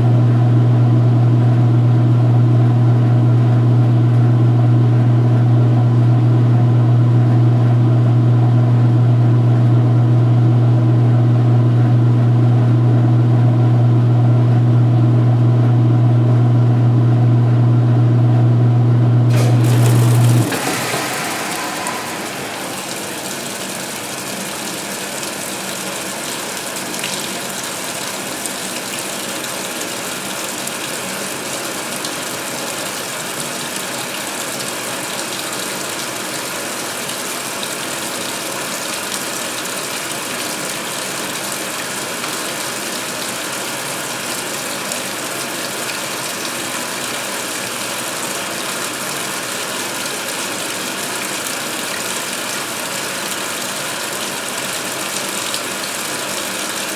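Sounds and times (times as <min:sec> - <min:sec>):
washer filling with water: 0:00.0 - 0:56.9.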